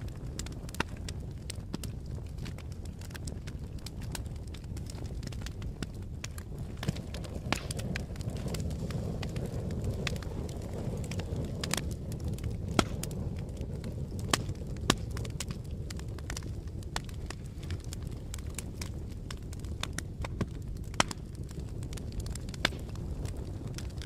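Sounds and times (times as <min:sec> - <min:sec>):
fire rumbling and crackling: 0:00.0 - 0:24.0.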